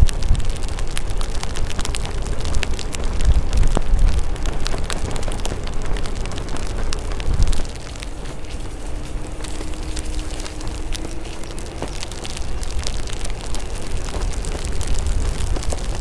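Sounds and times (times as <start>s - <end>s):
raindrops hitting microphone: 0.0s - 16.0s
wind rumbling on microphone: 0.0s - 16.0s.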